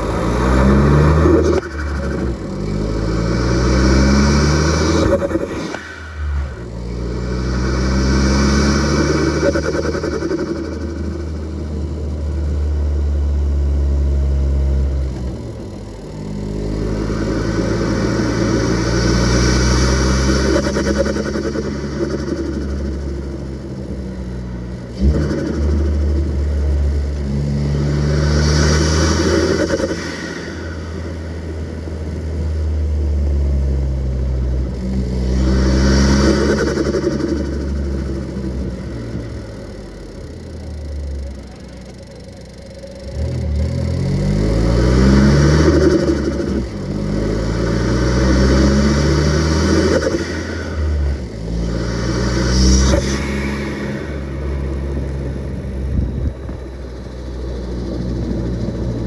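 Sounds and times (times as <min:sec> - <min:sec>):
turbocharged car engine running: 0:00.0 - 0:59.0.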